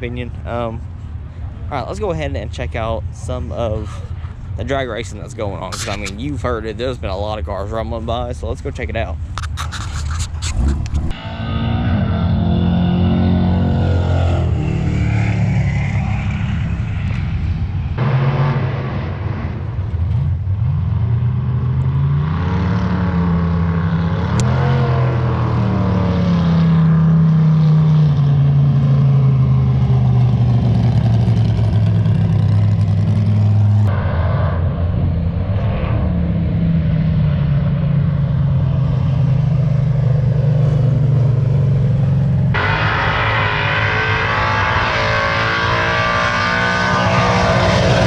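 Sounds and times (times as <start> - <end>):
drag car engines revving: 0.0 - 48.0.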